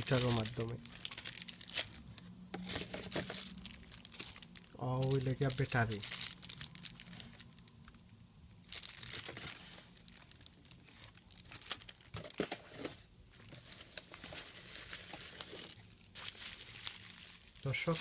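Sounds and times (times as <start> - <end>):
packaging crinkling and rustling: 0.0 - 8.0, 8.6 - 18.0.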